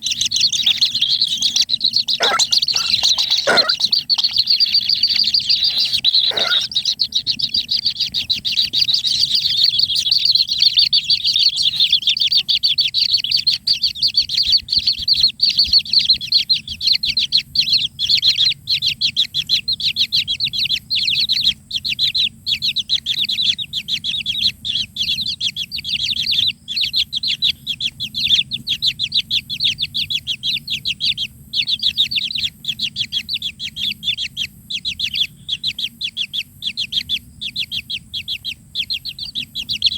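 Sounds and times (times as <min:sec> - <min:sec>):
nestlings begging with high chirps: 0:00.0 - 0:39.9.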